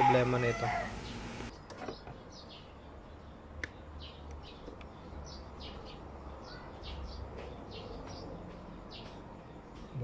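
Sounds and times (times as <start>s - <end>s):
small bird chirping: 0.7s - 10.0s.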